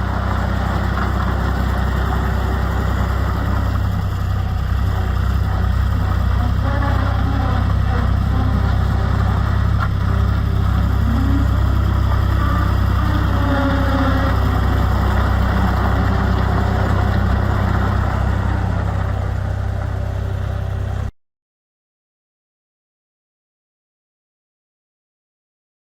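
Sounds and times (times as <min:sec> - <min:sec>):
diesel engine idling: 0:00.0 - 0:21.1.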